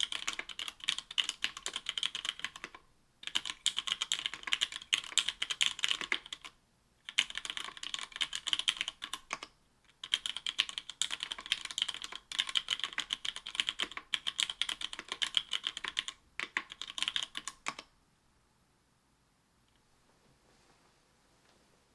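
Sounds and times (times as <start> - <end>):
mechanical keyboard typing: 0.0 - 17.9.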